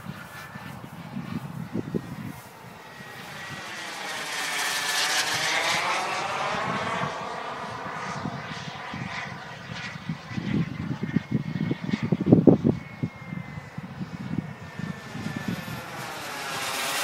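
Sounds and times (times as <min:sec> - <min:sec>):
model jet flying past: 0:00.0 - 0:17.0.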